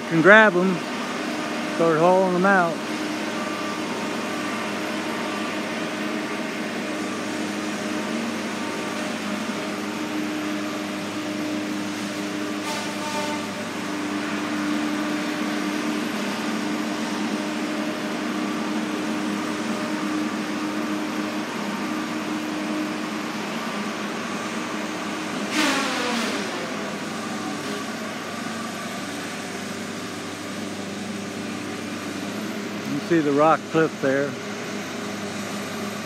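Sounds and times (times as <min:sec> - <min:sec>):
diesel engine humming: 0:00.0 - 0:36.0.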